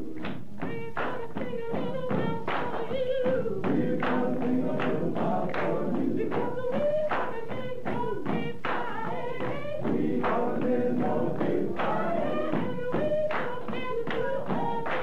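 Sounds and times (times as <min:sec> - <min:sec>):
people singing: 0:00.0 - 0:15.0
rhythmic sharp claps: 0:00.0 - 0:15.0.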